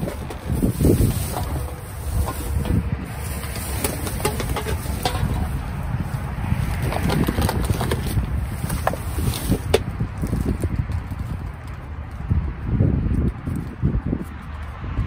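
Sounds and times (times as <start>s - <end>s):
items rustling and clicking: 0.0s - 12.2s
wind buffeting microphone: 0.0s - 15.0s.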